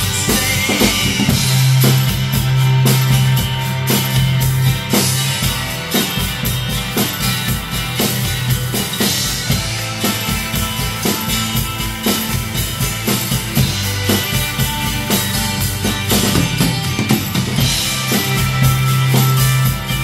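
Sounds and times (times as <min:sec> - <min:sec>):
acoustic drum kit playing: 0:00.0 - 0:20.0
recorded rock song: 0:00.0 - 0:20.0.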